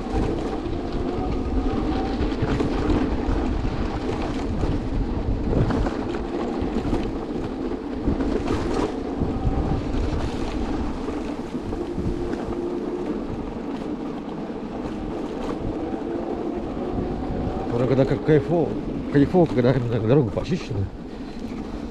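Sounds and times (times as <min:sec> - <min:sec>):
vehicle tyre and motor noise: 0:00.0 - 0:21.9
wind rushing over microphone: 0:00.0 - 0:21.9.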